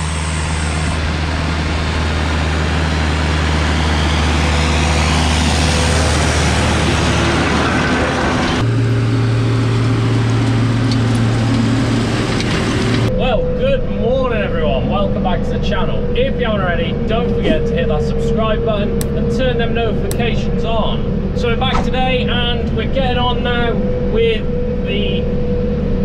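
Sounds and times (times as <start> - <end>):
tractor engine humming: 0.0 - 13.9, 15.2 - 26.0.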